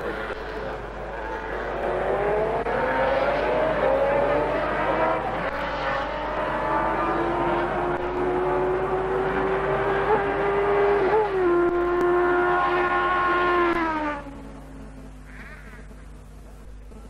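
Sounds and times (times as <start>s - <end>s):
motorcycle engine running hard: 0.0s - 17.0s.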